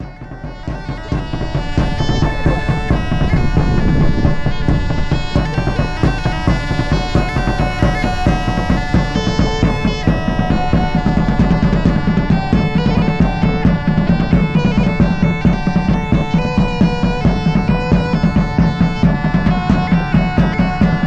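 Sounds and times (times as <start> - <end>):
drums: 0.0 - 21.0
folk music wind instrument melody: 0.0 - 21.0.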